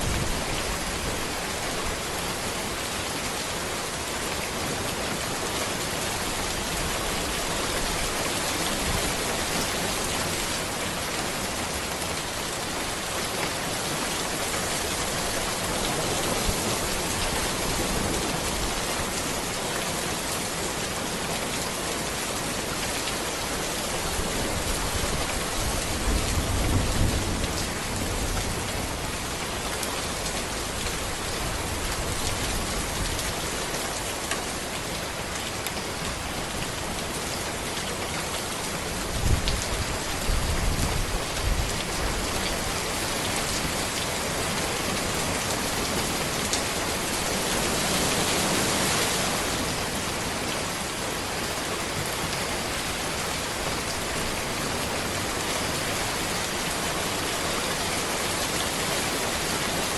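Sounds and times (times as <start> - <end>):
rain falling on road: 0.0 - 59.9.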